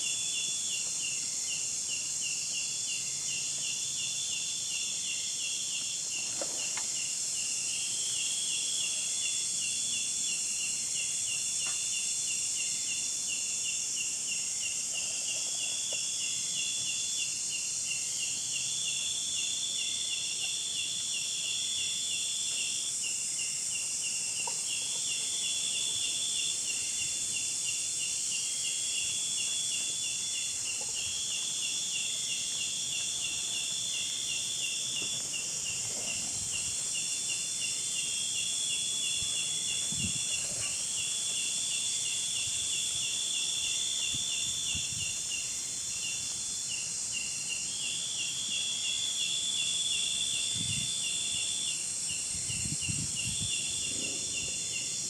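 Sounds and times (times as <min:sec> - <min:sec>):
high buzz of many insects: 0:00.0 - 0:55.0
insect chirping and trilling: 0:00.0 - 0:55.0.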